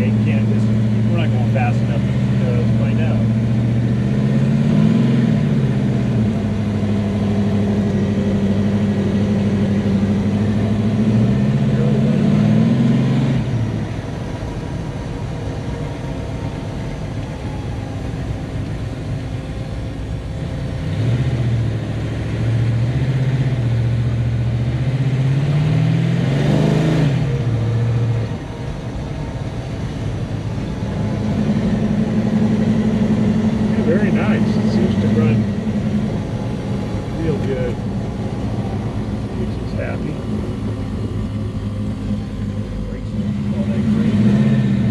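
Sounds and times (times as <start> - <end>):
drag car engine revving: 0.0 - 44.9.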